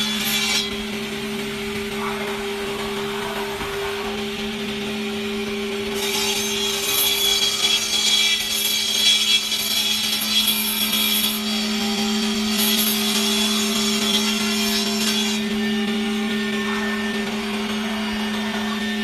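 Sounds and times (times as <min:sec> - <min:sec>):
saw blade cutting wood: 0:00.0 - 0:19.0
saw motor humming: 0:00.0 - 0:19.0.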